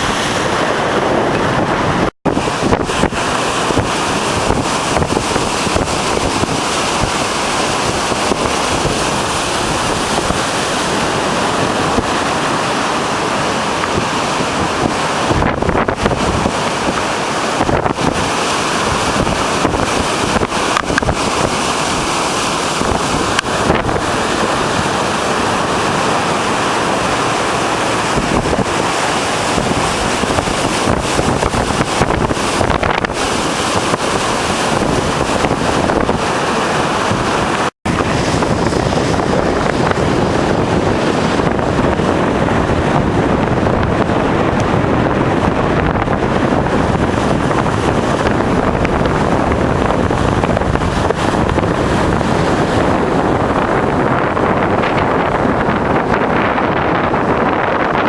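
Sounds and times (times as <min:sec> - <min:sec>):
heavy waves breaking: 0:00.0 - 0:58.0
wind buffeting microphone: 0:00.0 - 0:58.0.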